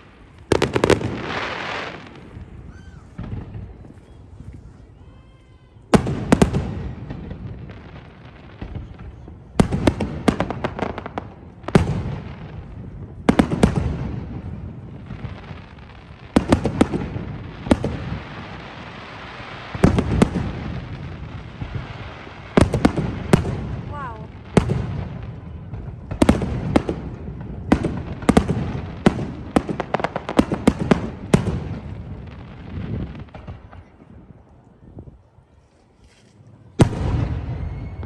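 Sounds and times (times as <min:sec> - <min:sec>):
fireworks bangs: 0:00.0 - 0:34.4, 0:36.6 - 0:38.0
fireworks crackling: 0:00.0 - 0:34.9, 0:35.5 - 0:38.0.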